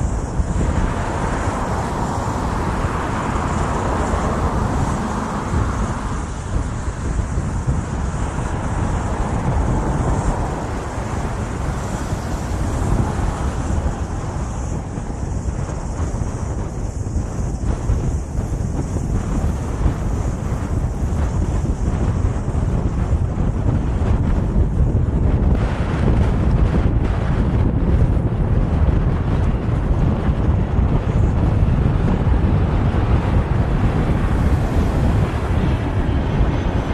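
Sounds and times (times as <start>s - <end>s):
road traffic passing: 0.0s - 36.9s
wind rumble on microphone: 0.0s - 36.9s.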